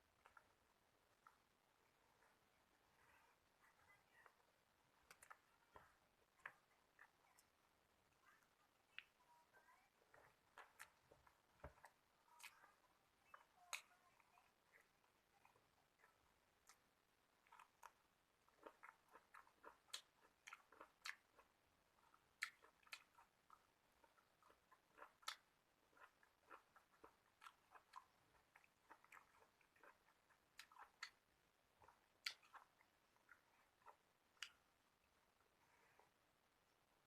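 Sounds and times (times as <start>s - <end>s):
person chewing food: 0.0s - 9.2s, 10.0s - 36.3s.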